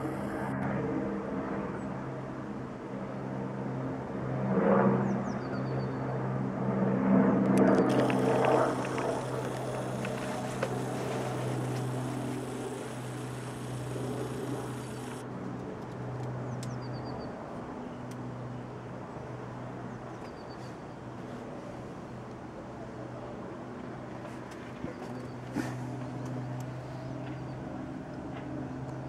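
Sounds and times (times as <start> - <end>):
helicopter droning: 0.0 - 29.0.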